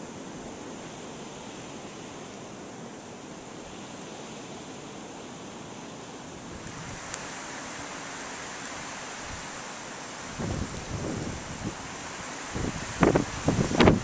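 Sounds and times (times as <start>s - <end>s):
blizzard wind blowing: 0.0s - 14.0s.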